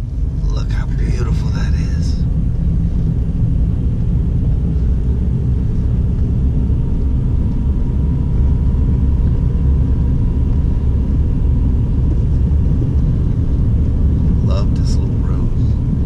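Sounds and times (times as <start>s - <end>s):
car road noise from cabin: 0.0s - 16.0s
faint steady whine: 0.0s - 16.0s.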